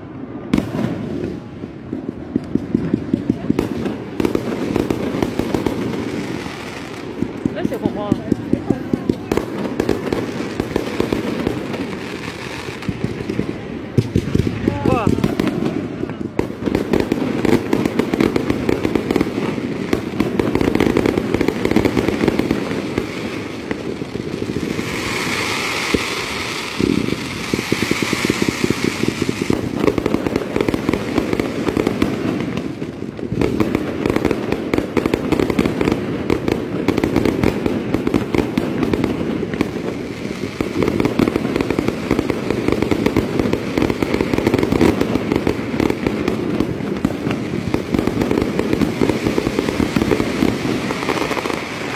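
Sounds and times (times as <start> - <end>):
fireworks bangs and crackling: 0.0 - 51.9
fireworks hissing: 0.2 - 51.9.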